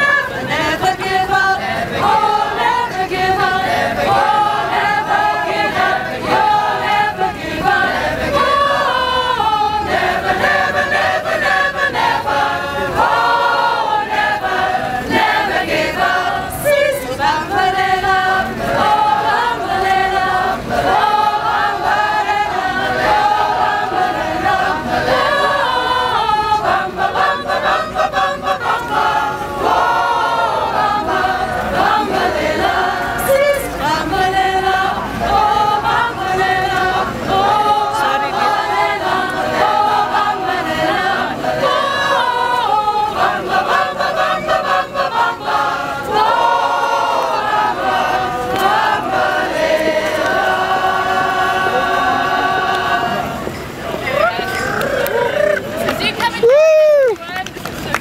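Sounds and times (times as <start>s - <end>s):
choir singing unaccompanied: 0.0s - 56.2s.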